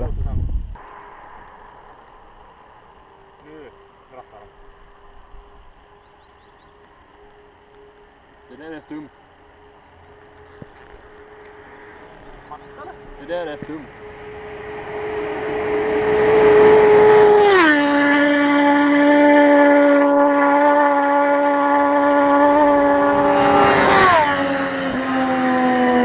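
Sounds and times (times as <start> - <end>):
motorcycles passing fast: 0.8 - 26.0.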